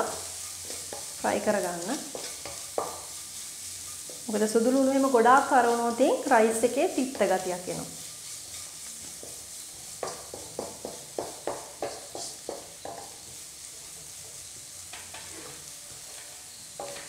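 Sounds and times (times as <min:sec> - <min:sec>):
onions sizzling in oil: 0:00.0 - 0:17.0
wooden spatula scraping pan: 0:00.0 - 0:17.0.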